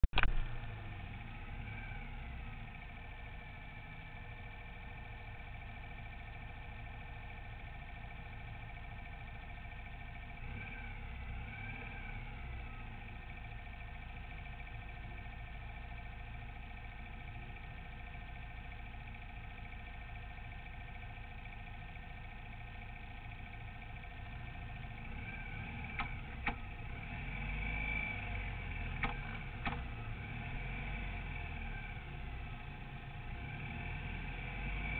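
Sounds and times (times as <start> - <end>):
kart engine idling: 0.0 - 34.9.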